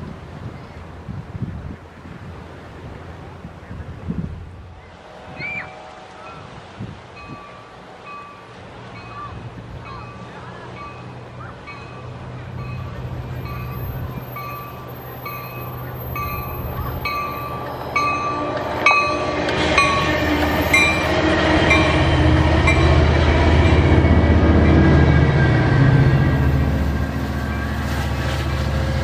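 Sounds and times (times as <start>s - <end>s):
train rumbling on rails: 0.0s - 29.0s
train bell ringing: 5.6s - 29.0s.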